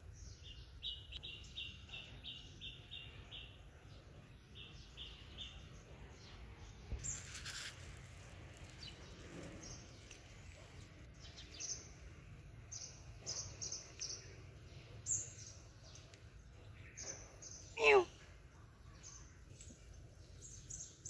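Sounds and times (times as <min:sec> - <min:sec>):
low outdoor hum: 0:00.0 - 0:21.0
small birds chirping: 0:00.0 - 0:21.0.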